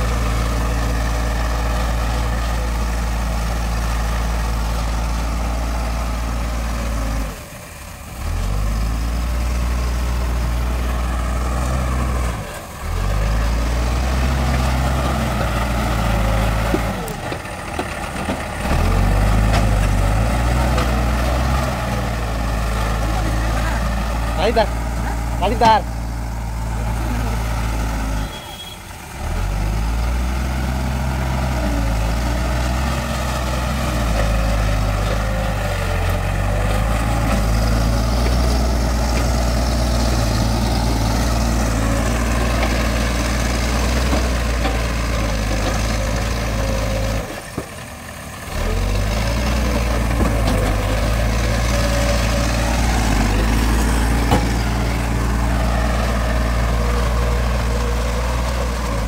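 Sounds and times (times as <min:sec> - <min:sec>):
diesel engine under load: 0:00.0 - 0:59.0.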